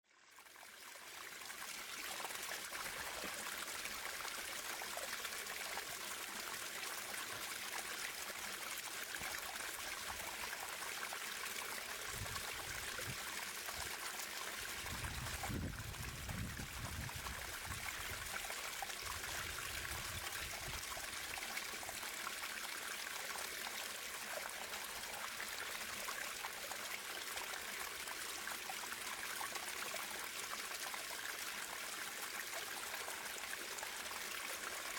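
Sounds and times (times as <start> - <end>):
stream water flowing: 0.3 - 34.9.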